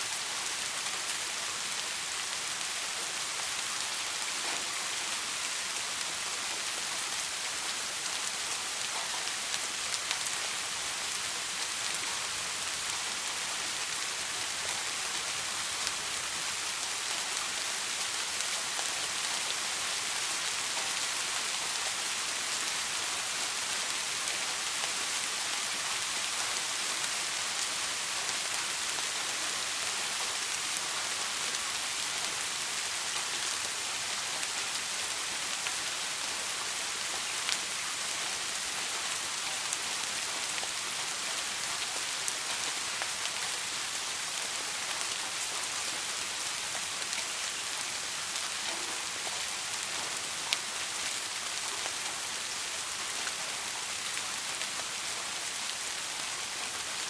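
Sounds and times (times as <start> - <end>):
soft steady rain: 0.0 - 57.0.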